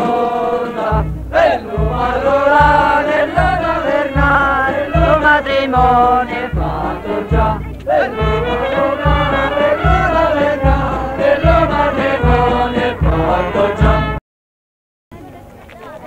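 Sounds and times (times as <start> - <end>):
folk band melody: 0.0 - 14.2
low bass notes: 0.5 - 14.2.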